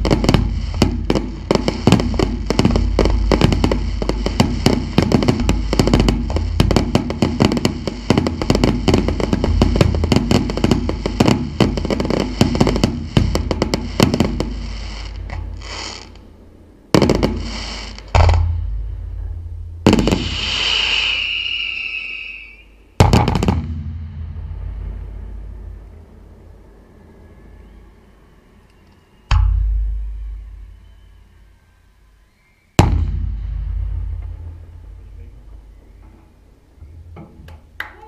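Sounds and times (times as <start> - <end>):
fireworks bangs and crackling: 0.0 - 26.2, 32.8 - 38.0.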